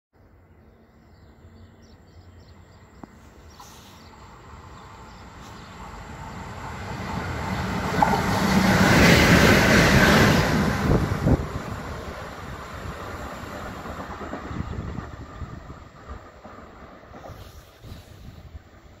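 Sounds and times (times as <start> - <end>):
locomotive rumbling past: 1.3 - 19.0.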